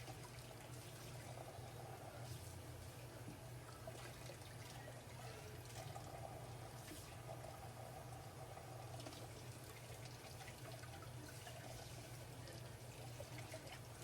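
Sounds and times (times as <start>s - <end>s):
low steady hum: 0.0s - 14.0s
trickle of running water: 0.0s - 14.0s.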